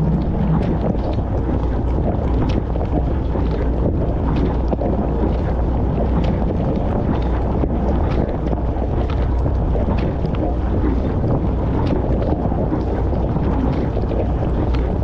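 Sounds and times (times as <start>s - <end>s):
small splashes and ticks: 0.0s - 15.0s
steady low hum: 0.0s - 15.0s.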